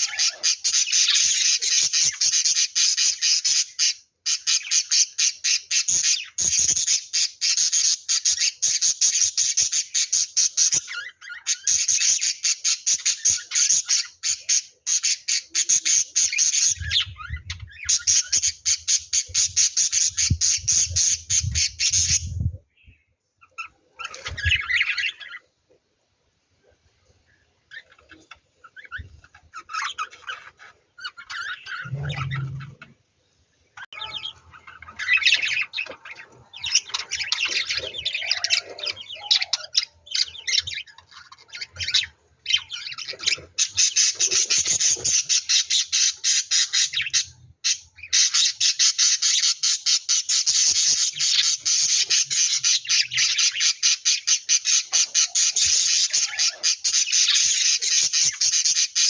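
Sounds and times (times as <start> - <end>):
lovebirds chirping and squawking: 0.0 - 25.8, 26.6 - 59.0.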